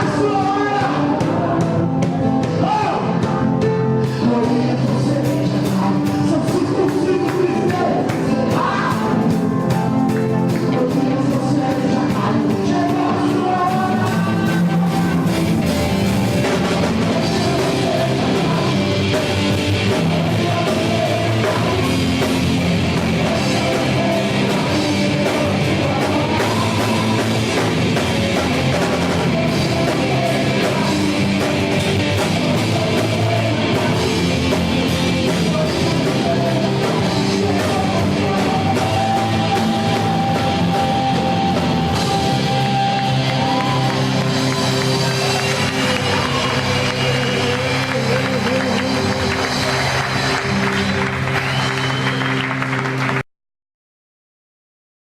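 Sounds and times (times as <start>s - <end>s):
rock gospel band playing: 0.0s - 53.2s
singing: 4.0s - 15.8s, 16.4s - 52.2s.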